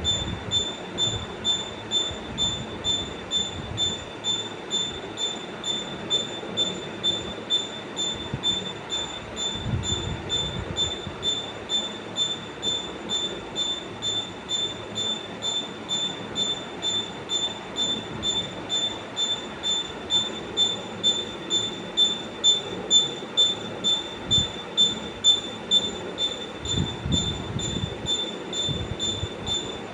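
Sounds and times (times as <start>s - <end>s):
rotating device squeaking: 0.0s - 29.9s.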